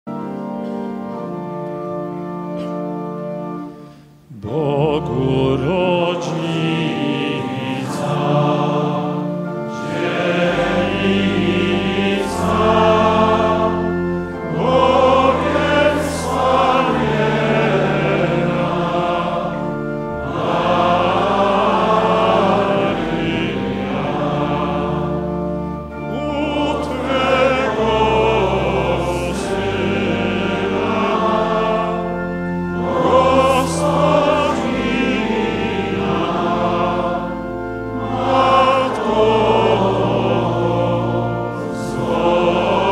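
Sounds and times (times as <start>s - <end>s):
choir singing a hymn: 0.1s - 42.9s
low steady accompaniment: 0.1s - 42.9s.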